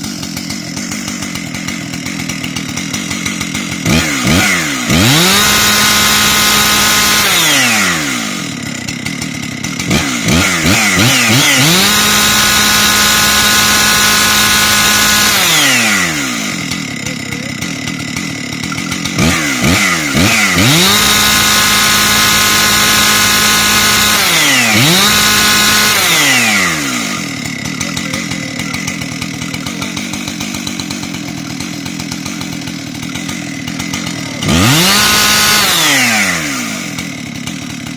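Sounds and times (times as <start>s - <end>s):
chainsaw revving and idling: 0.0s - 37.9s.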